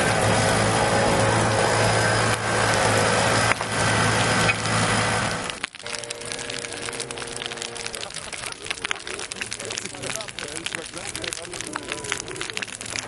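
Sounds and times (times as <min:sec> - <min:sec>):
bonfire roaring: 0:00.0 - 0:13.0
wood crackling and popping: 0:00.0 - 0:13.0.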